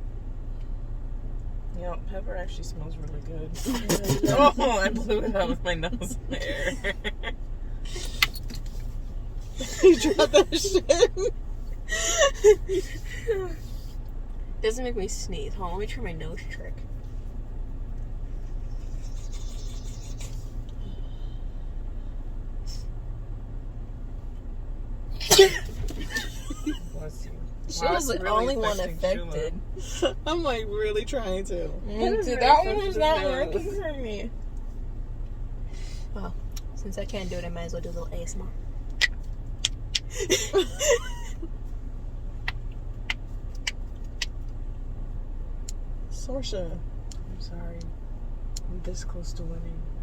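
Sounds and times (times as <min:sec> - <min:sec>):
car cabin rumble: 0:00.0 - 0:50.0.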